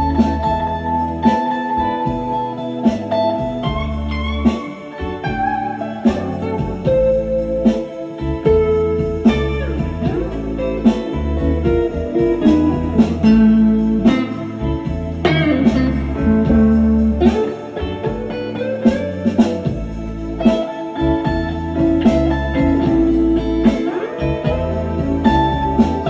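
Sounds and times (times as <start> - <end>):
electric guitar blues lead: 0.0 - 26.0.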